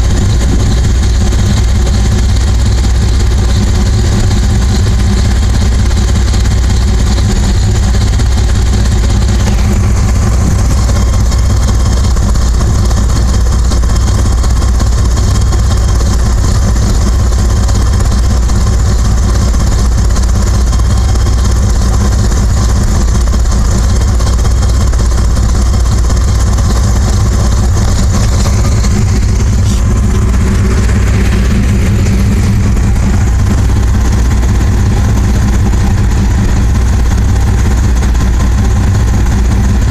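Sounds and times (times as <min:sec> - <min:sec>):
distorted truck engine idling: 0:00.0 - 0:39.9.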